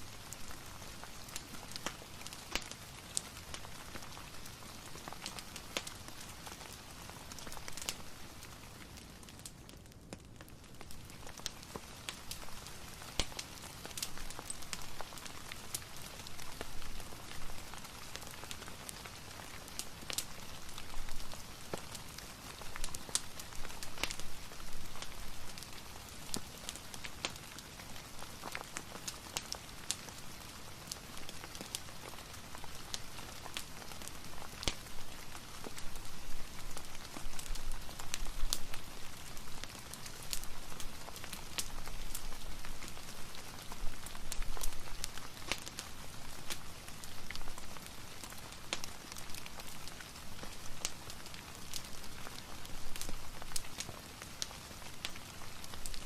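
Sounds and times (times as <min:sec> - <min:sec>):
fireplace crackling: 0:00.0 - 0:56.0
steady rain falling: 0:00.0 - 0:56.0.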